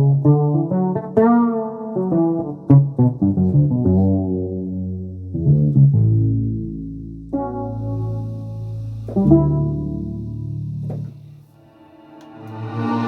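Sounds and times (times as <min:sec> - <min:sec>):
synthesizer plucked-string notes: 0:00.0 - 0:13.0.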